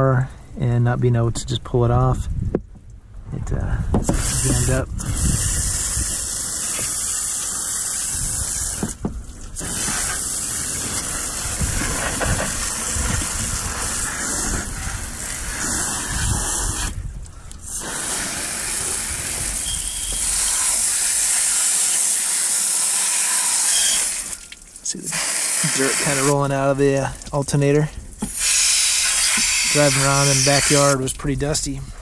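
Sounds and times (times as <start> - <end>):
hose spray hissing and splashing: 4.0 - 17.0, 17.6 - 27.4, 28.2 - 31.1.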